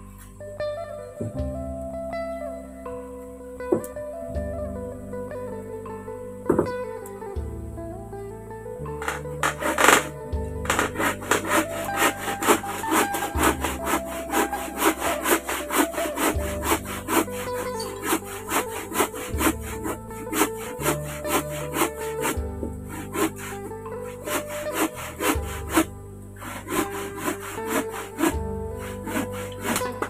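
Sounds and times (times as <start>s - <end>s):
background music with scraping beat: 0.0s - 30.0s.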